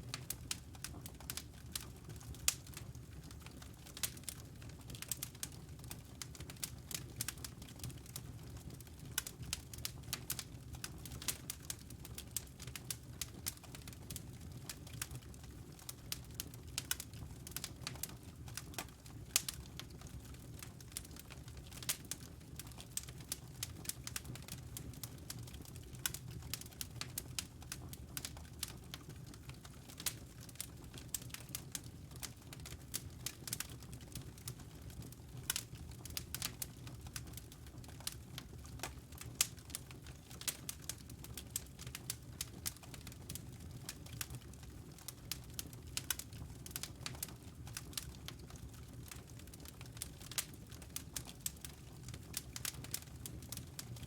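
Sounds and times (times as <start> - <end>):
wood logs crackling and popping: 0.1 - 54.0.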